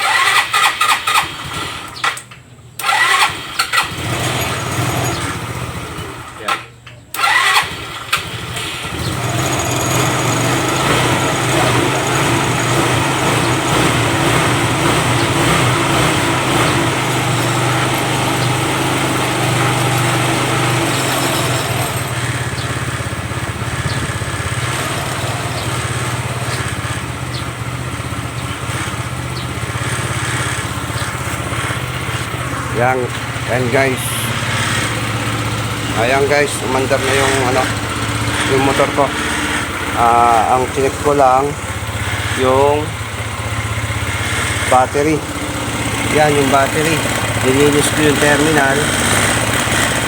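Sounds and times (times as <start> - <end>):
small motorcycle engine idling: 0.0 - 50.0.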